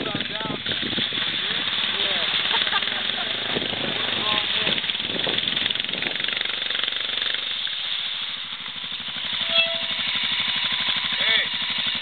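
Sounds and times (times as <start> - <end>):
off-road vehicle engine chugging: 0.0 - 12.0
steady hiss: 0.2 - 12.0.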